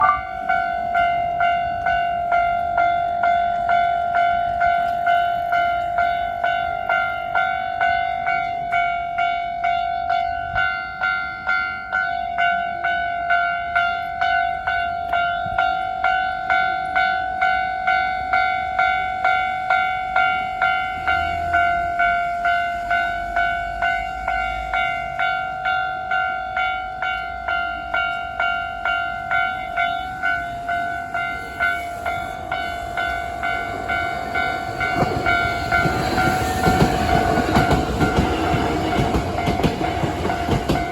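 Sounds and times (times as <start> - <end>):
level-crossing alarm dinging: 0.0 - 40.9.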